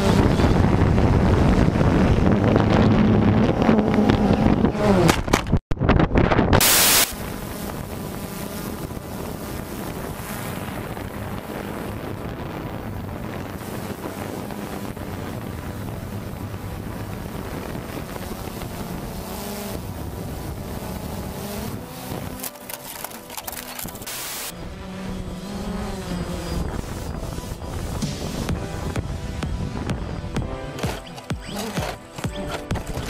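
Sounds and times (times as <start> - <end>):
motor hum: 0.0 - 5.5, 6.7 - 33.0
wind noise on microphone: 0.0 - 33.0.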